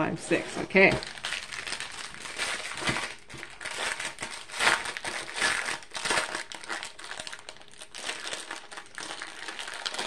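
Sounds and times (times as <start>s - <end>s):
foil packet crinkling: 0.3s - 10.0s.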